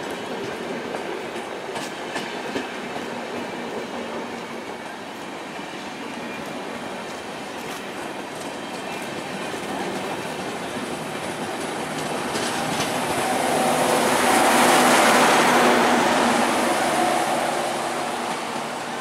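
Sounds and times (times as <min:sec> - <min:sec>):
train wheels clicking over rail joints: 0:00.3 - 0:03.5, 0:06.4 - 0:19.0.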